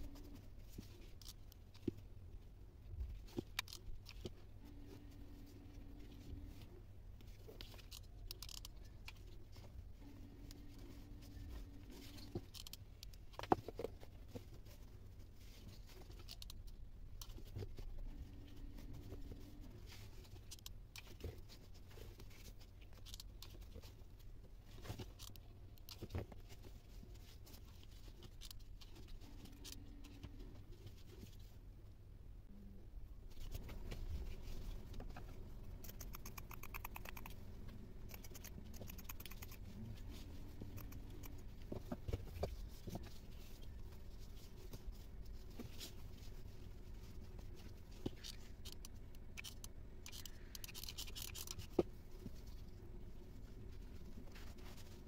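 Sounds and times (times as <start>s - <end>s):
faint low hum: 0.0s - 55.0s.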